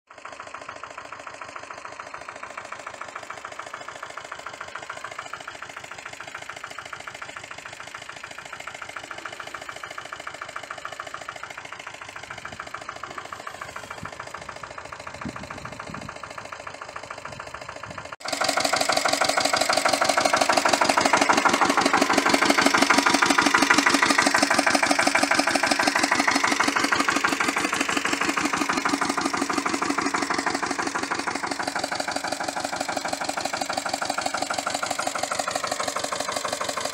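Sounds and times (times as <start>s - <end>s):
diesel tractor engine running: 0.1s - 36.9s.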